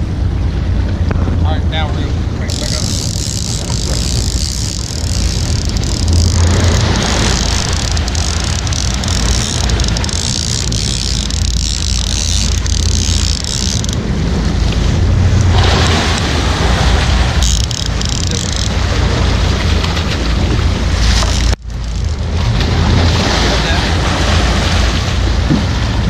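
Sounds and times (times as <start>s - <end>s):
low engine rumble: 0.0s - 26.0s
water rushing along boat hull: 0.0s - 26.0s
wind buffeting microphone: 0.0s - 26.0s.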